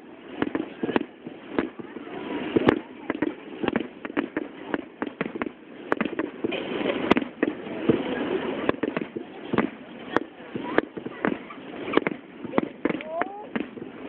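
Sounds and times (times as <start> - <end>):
continuous noisy rumble: 0.0 - 14.0
fireworks bursting with sharp bangs: 0.0 - 14.0.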